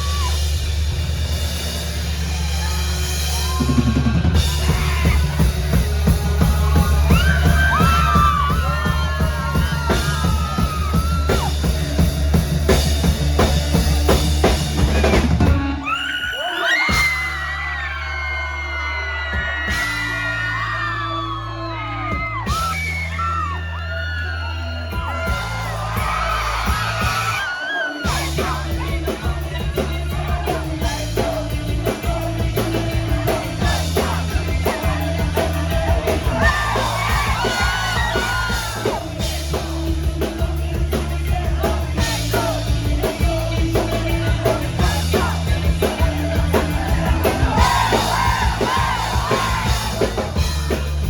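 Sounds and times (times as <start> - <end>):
drums: 0.0 - 51.0
live rock band playing: 0.0 - 51.0
sung and shouted vocals: 3.1 - 51.0.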